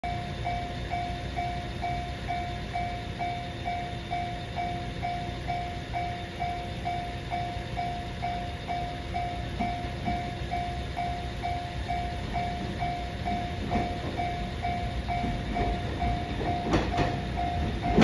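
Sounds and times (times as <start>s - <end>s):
level crossing alarm dinging: 0.0s - 18.0s
low steady rumble: 0.0s - 18.0s.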